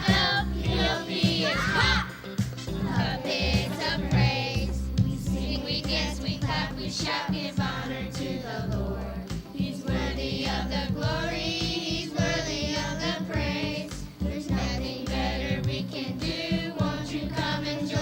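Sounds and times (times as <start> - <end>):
repeating bass beat: 0.0 - 18.0
voices singing: 0.0 - 18.0.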